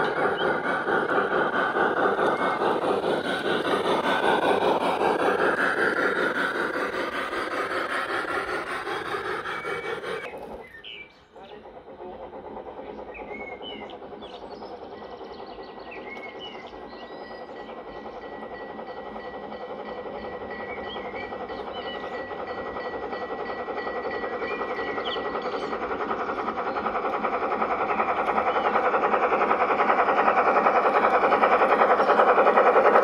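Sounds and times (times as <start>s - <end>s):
model train wheels rattling on rails: 0.0s - 33.0s.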